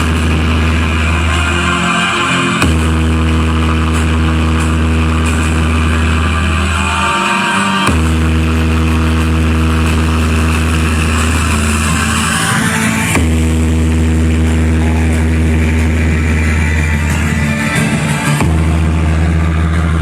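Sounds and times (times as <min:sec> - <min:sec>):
subwoofer deep bass tone: 0:00.0 - 0:20.0.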